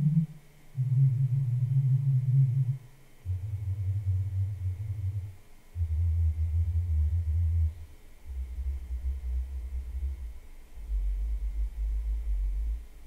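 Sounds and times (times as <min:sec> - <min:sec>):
speaker playing bass test tones: 0:00.0 - 0:13.0.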